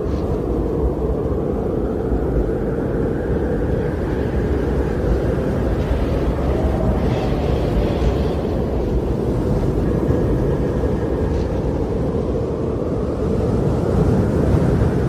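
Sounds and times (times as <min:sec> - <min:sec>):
strong wind rumbling: 0:00.0 - 0:15.0.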